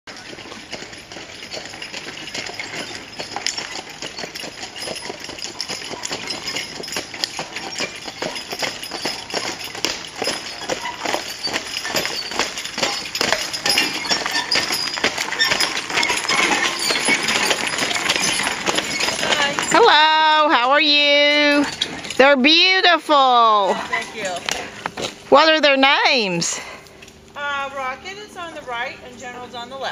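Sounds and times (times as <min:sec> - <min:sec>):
horse hoofbeats on gravel: 0:00.1 - 0:27.3.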